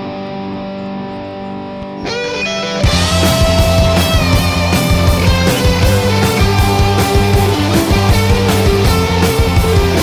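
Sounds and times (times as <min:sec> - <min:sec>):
instrumental rock music: 0:00.0 - 0:10.0.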